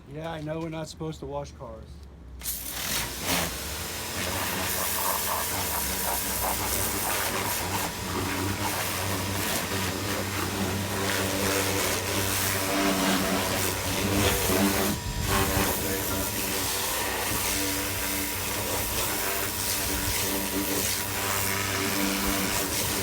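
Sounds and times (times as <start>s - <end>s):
pressure washer spray hissing: 2.4s - 23.0s
pump motor hum: 2.4s - 23.0s.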